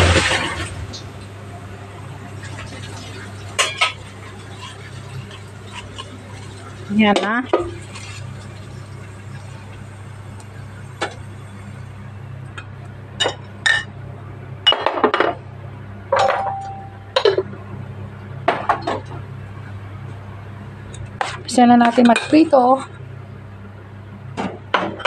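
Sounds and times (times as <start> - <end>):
steady low hum: 0.0 - 24.7.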